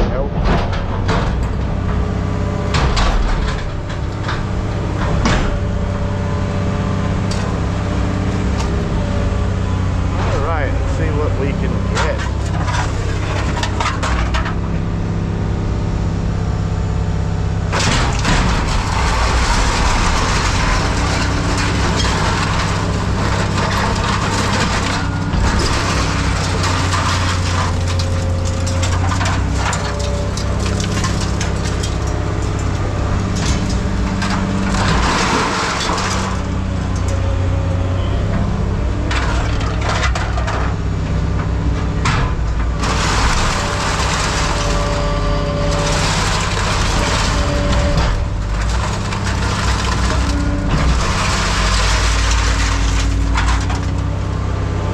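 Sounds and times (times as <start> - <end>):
scrap metal scraping and clanking: 0.0 - 15.5, 17.4 - 54.9
diesel engine running: 0.0 - 54.9.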